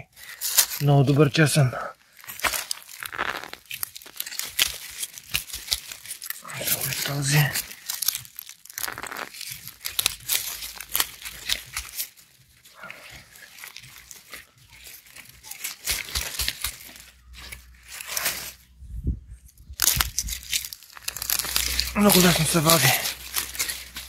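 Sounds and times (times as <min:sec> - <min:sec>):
roots tearing: 0:00.0 - 0:18.7, 0:19.5 - 0:24.0
mulch rustling and crackling: 0:00.2 - 0:18.8, 0:19.7 - 0:24.0.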